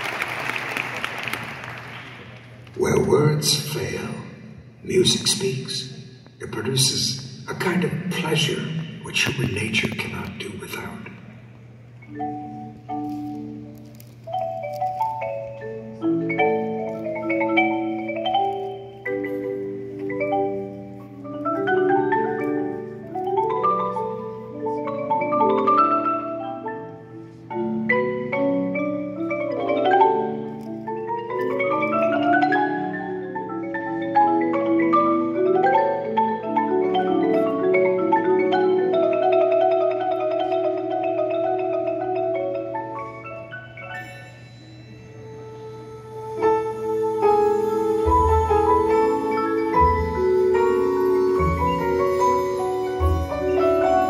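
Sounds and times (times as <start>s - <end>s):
marimbas and vibraphones playing: 2.8s - 54.0s.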